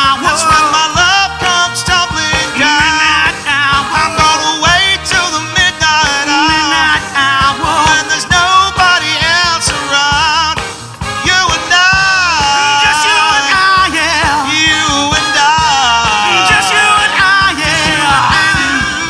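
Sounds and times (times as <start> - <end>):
singer's wordless vibrato notes: 0.0 - 19.0
soul band playing: 0.0 - 19.0.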